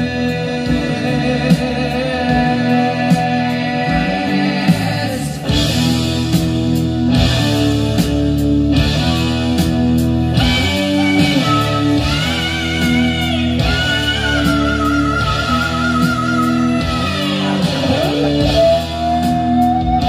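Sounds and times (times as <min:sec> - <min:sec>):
heavy guitar rock through speakers: 0:00.0 - 0:20.0.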